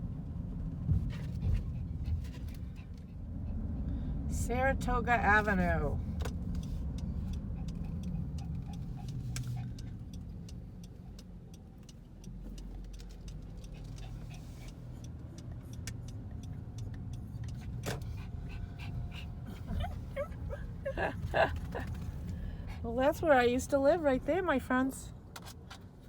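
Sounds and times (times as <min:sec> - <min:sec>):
vehicle engine and tyres rumbling: 0:00.0 - 0:26.0.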